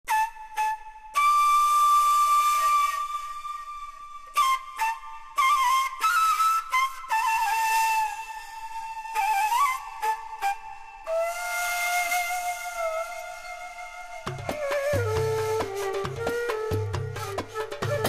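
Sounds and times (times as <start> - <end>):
flute-like melody from vinyl record: 0.0 - 18.0.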